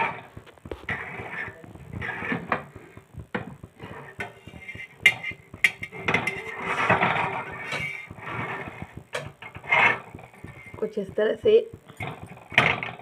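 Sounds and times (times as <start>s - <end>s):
spatula scraping griddle: 0.0s - 13.0s.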